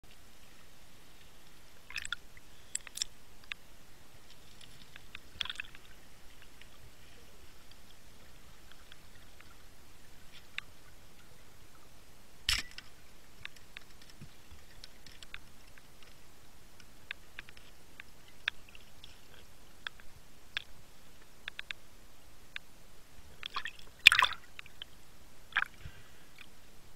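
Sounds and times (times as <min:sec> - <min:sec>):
faint hiss: 0:00.0 - 0:26.9
underwater clicks and crackles: 0:01.1 - 0:03.6, 0:04.2 - 0:11.8, 0:12.5 - 0:21.8, 0:23.3 - 0:26.6.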